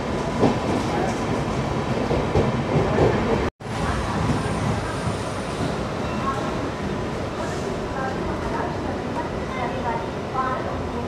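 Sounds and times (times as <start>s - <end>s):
passenger train running: 0.0s - 11.0s.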